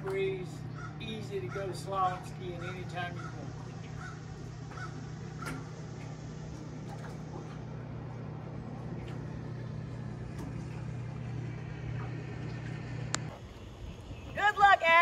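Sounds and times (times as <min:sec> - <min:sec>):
electric winch motor humming: 0:00.0 - 0:14.2.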